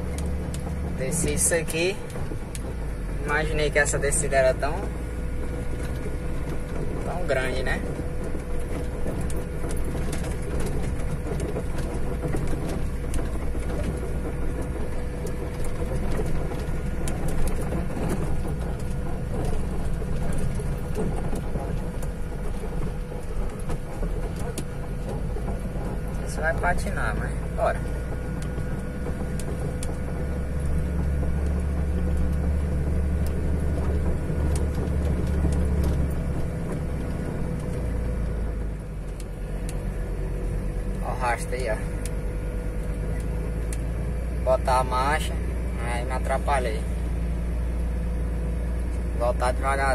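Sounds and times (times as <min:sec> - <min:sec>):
rattles and knocks: 0:00.0 - 0:49.9
truck engine running: 0:00.0 - 0:49.9.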